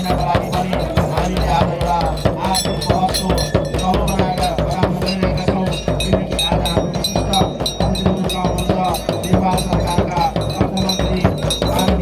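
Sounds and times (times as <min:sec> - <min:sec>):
frame drum beaten with stick: 0:00.0 - 0:12.0
hand cymbals clashing: 0:00.0 - 0:12.0.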